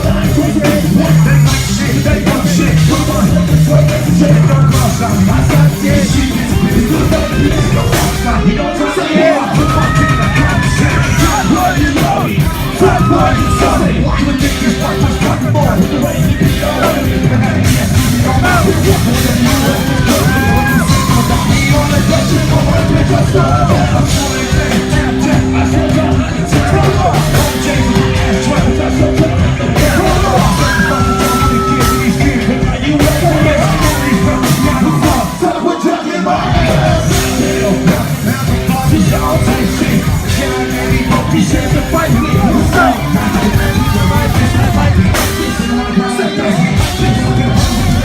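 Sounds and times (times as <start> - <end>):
live rap-rock music: 0.0 - 48.0
yelled vocals: 0.0 - 48.0.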